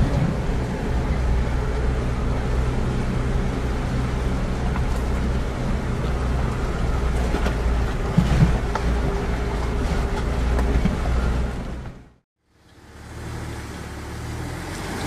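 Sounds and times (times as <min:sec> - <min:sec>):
vehicle engine and cab rumbling: 0:00.0 - 0:15.0.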